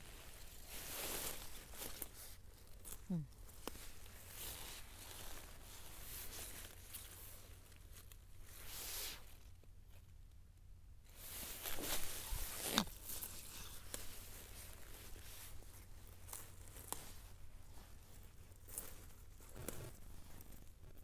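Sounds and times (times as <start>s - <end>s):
leafy plants rustling and tearing: 0.0s - 9.4s, 11.2s - 20.8s.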